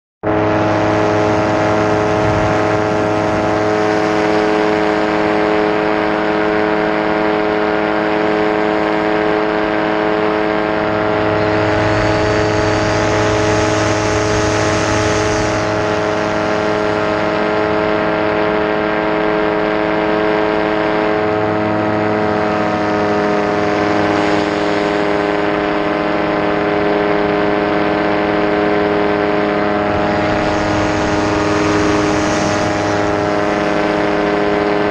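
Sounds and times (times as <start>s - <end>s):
wind noise: 0.2s - 7.0s, 8.7s - 34.9s
model plane motor and propeller: 0.2s - 34.9s.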